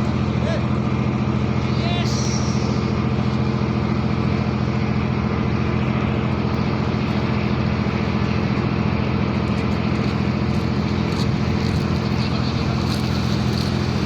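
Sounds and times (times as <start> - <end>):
ship engine droning: 0.0 - 14.0.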